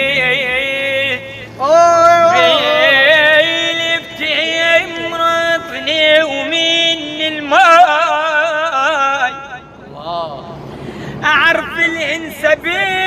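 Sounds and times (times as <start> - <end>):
man singing ornamented melody: 0.0 - 13.0.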